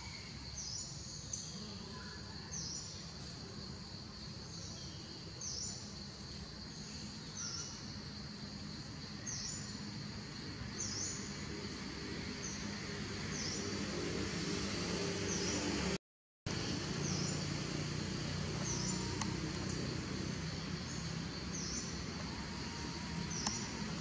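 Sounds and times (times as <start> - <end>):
high insect drone: 0.0 - 15.9, 16.5 - 24.0.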